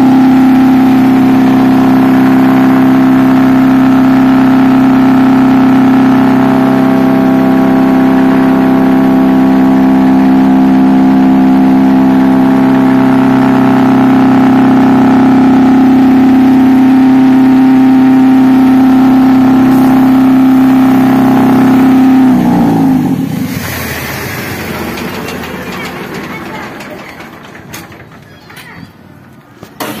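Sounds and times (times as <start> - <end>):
machinery humming and winding down: 0.0 - 30.0.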